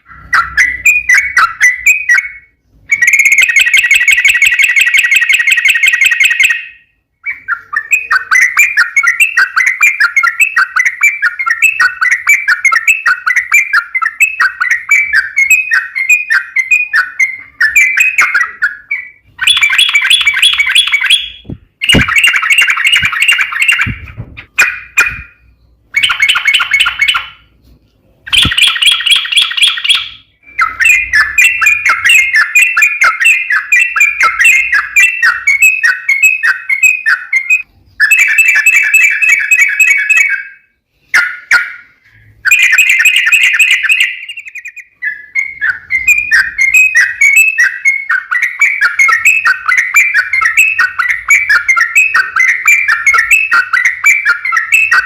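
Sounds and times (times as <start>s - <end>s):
bird chattering song: 0.0s - 27.6s, 28.3s - 55.0s.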